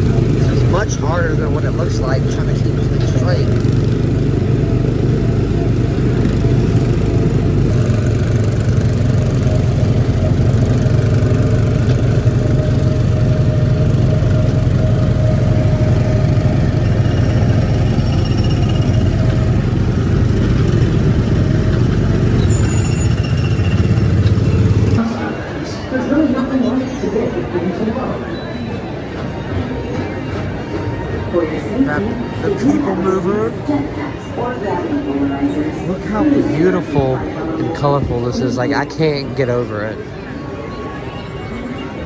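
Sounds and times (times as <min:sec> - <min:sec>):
small gasoline engine droning: 0:00.0 - 0:42.0.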